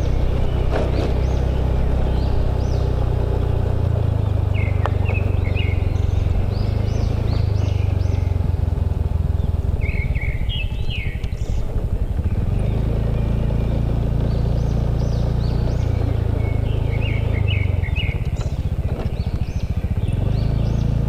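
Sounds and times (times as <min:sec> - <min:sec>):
birds chirping: 0:00.0 - 0:21.0
motorbike engine running: 0:00.0 - 0:21.0.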